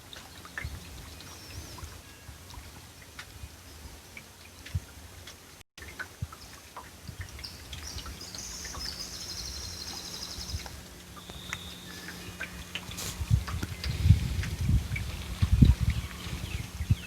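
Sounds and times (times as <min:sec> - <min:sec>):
low steady hum: 0:00.0 - 0:17.0
birds chirping trills: 0:00.1 - 0:04.8, 0:07.2 - 0:17.0.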